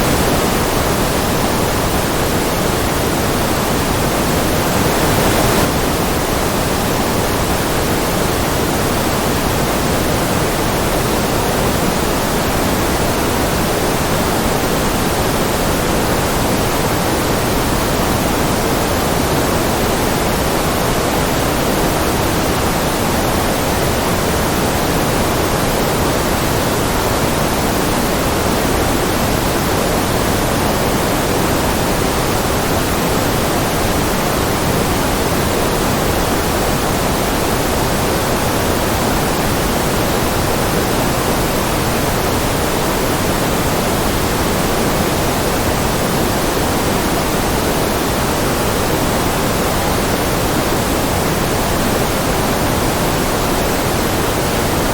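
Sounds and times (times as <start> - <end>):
steady white noise hiss: 0.0 - 54.9.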